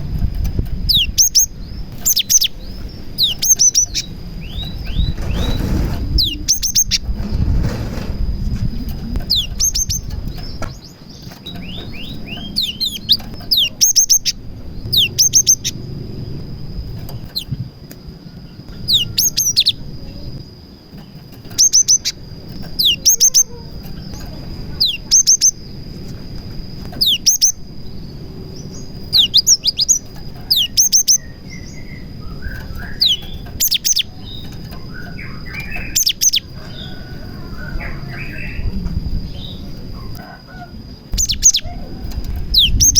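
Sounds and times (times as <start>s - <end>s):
bird singing whistled notes: 0.8s - 7.2s, 8.7s - 16.4s, 18.3s - 20.2s, 21.1s - 25.8s, 26.9s - 40.2s, 41.1s - 42.9s.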